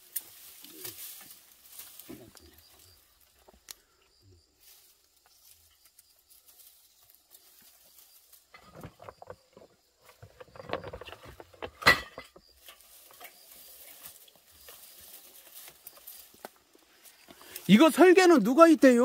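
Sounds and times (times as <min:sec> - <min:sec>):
dry straw rustling: 0:00.0 - 0:03.8, 0:04.5 - 0:11.6, 0:12.3 - 0:19.0.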